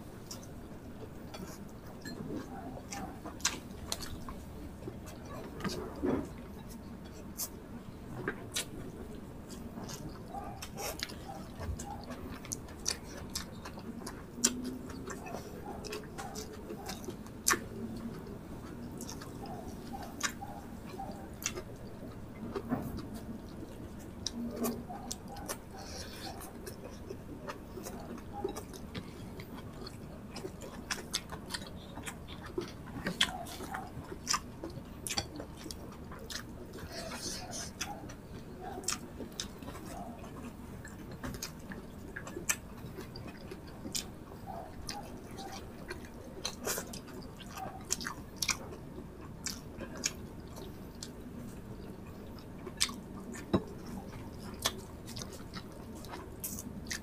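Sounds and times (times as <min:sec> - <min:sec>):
chewing and lip smacking: 0:00.2 - 0:57.0.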